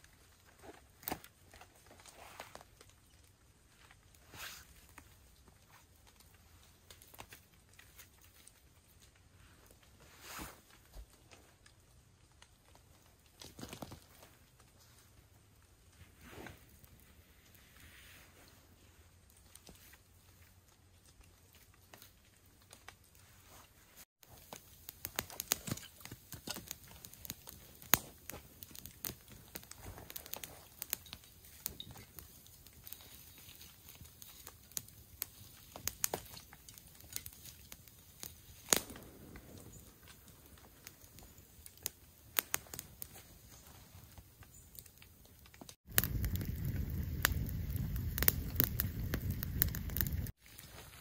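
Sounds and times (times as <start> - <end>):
campfire blazing: 0.0 - 51.0
twig fire crackling and popping: 0.0 - 51.0.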